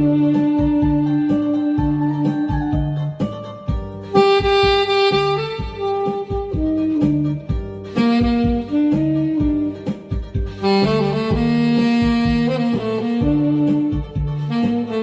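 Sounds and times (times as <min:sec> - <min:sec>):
bass: 0:00.0 - 0:15.0
saxophone melody: 0:00.0 - 0:15.0
steady drum beat: 0:00.0 - 0:15.0.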